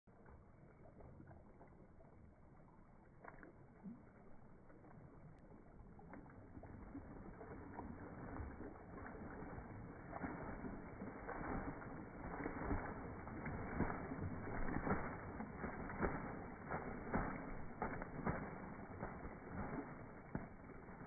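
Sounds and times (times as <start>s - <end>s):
duck splashing in water: 0.1s - 21.0s.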